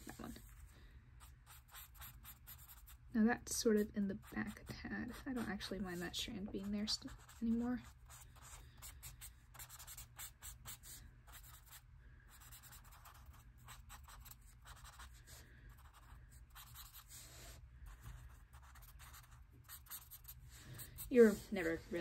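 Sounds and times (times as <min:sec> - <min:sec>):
marker scratching on paper: 0:01.2 - 0:03.0, 0:04.2 - 0:22.0.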